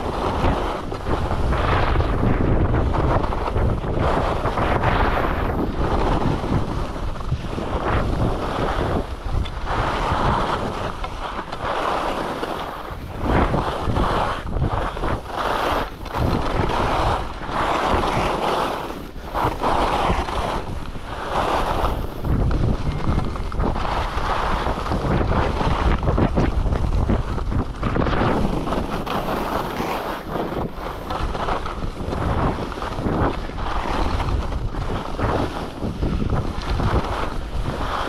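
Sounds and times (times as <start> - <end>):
skis scraping over snow: 0.0 - 38.0
wind on microphone: 0.0 - 38.0.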